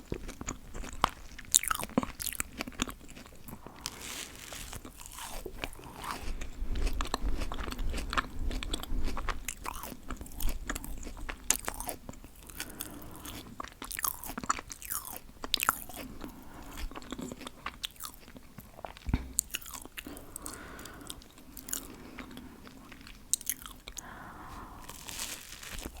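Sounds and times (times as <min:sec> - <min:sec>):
chewing bread with crunching: 0:00.0 - 0:26.0.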